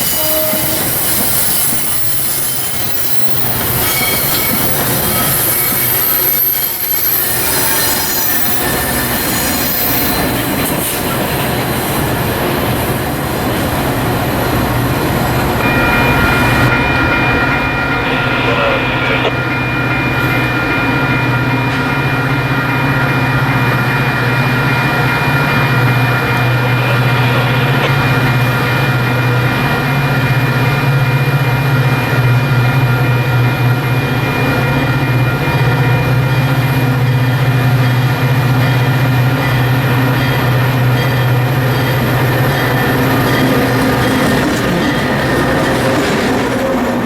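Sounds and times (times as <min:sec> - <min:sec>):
diesel locomotive engine drone: 0:00.0 - 0:47.0.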